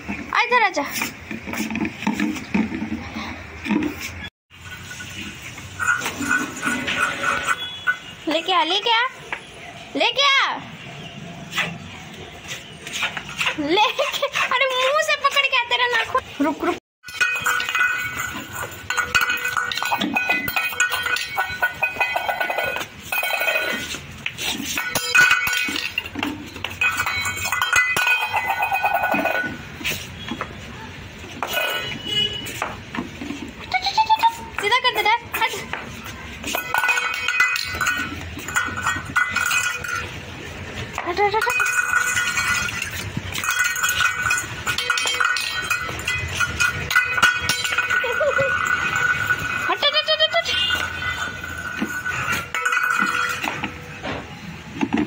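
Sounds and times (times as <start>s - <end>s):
metal bowl scraping on concrete: 0.5s - 9.2s, 11.4s - 54.1s.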